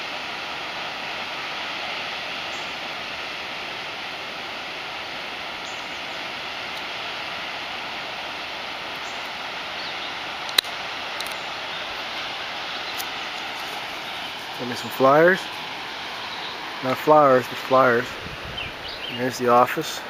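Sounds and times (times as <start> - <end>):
water rushing from outlet: 0.0 - 20.0.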